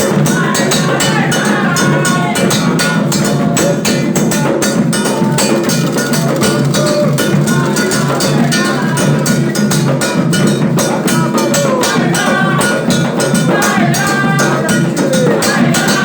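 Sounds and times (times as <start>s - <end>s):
drums and percussion: 0.0s - 16.0s
voices singing: 0.0s - 16.0s.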